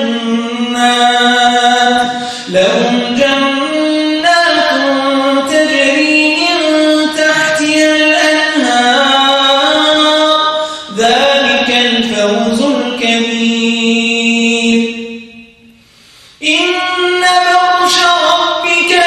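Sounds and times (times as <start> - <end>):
man chanting melodically: 0.0 - 15.5, 16.4 - 19.0.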